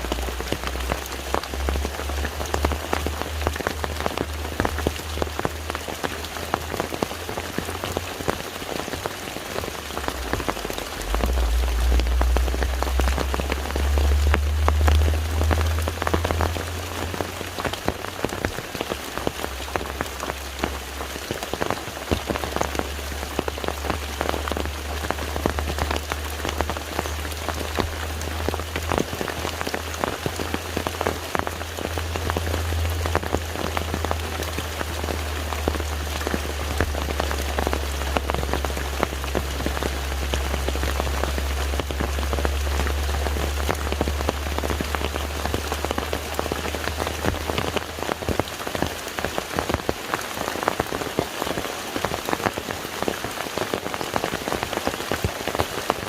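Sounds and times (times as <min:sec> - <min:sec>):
low rumble: 0:00.0 - 0:49.5
rain falling on water: 0:00.0 - 0:56.0.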